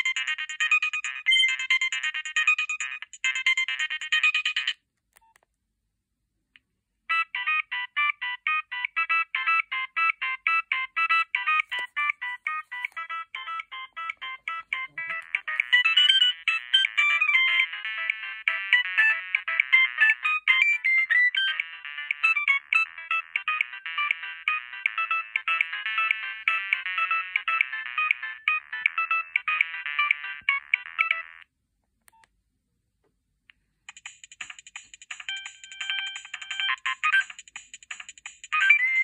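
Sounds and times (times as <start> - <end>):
electronic ringtone melodies: 0.0 - 4.8, 7.1 - 31.4, 33.9 - 39.0.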